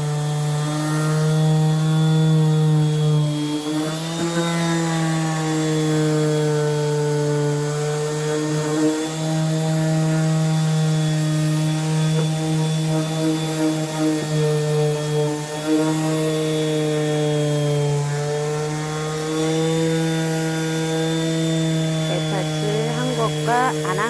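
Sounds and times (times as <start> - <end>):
electric sander on wood: 0.0 - 24.0.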